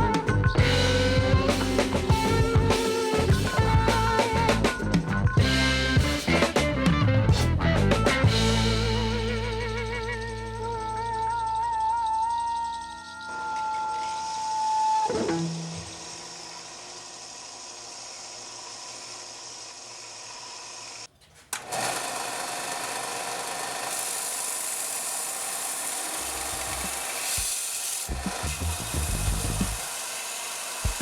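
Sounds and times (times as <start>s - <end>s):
power tool grinding steel: 0.6s - 4.9s, 8.4s - 31.0s.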